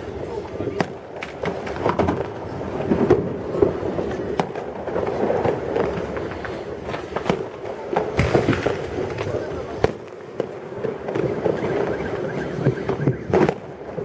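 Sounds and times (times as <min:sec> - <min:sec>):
fireworks bangs and crackles: 0:00.0 - 0:14.0
rumble of distant explosions: 0:00.0 - 0:14.0.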